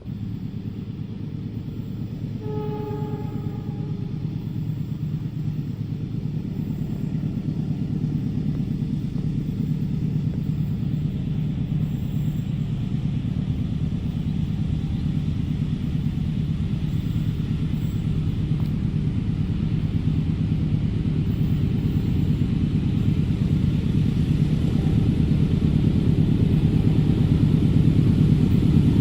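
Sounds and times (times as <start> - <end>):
train passing rumble: 0.0 - 29.0.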